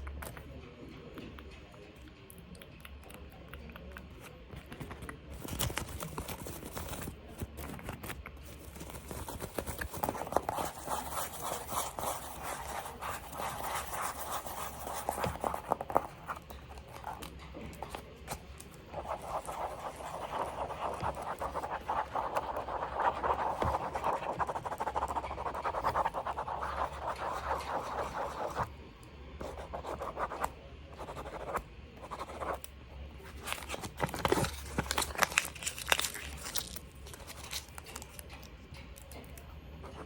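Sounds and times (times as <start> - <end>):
scratching and tapping on objects: 0.0 - 28.7, 29.4 - 40.0.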